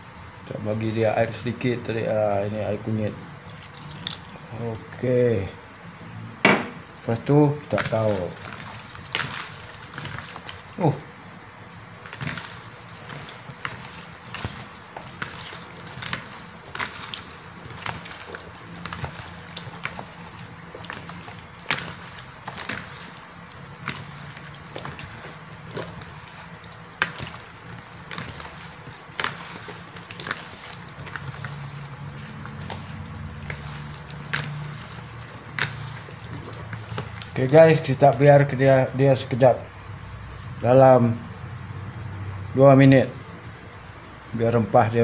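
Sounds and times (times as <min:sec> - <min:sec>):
wet squelches of kneading fish: 0:00.0 - 0:45.0.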